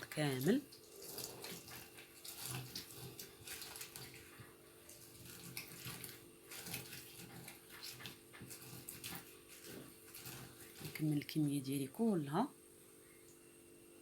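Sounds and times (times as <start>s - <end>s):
juice trickling: 0.0s - 11.4s.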